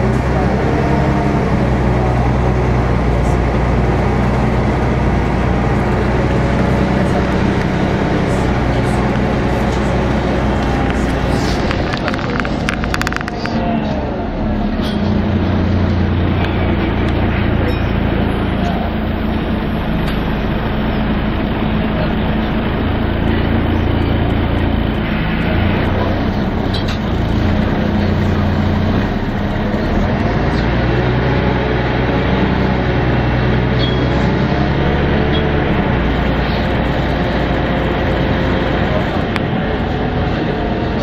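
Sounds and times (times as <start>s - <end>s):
bus diesel engine running: 0.0s - 41.0s
road noise: 0.0s - 41.0s.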